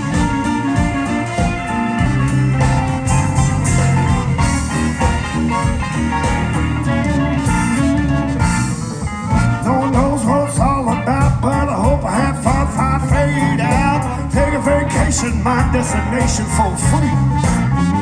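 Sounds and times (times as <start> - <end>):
blues band playing: 0.0 - 18.0
lead guitar with bent notes: 0.0 - 18.0.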